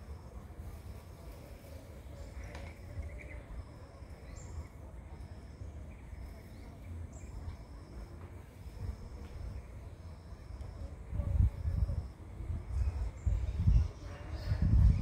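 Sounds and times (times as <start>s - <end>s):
high insect call: 0.0s - 14.0s
steady low rumble: 0.0s - 15.0s.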